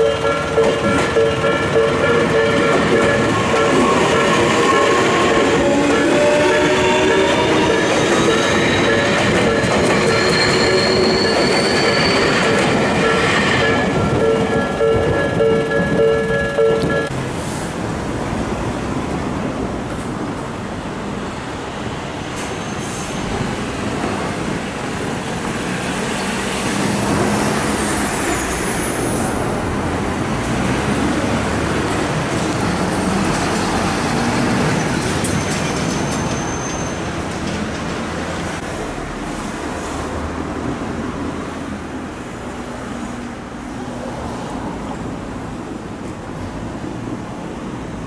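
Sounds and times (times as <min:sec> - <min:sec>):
road traffic noise: 0:00.0 - 0:48.0
train wheels rumbling on rails: 0:00.0 - 0:48.0.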